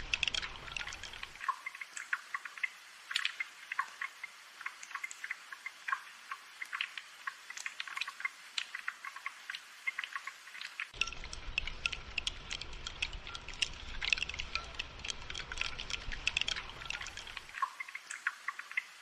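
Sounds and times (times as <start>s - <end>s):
raindrops ticking and plinking: 0.0s - 19.0s
rainfall hiss: 0.0s - 19.0s.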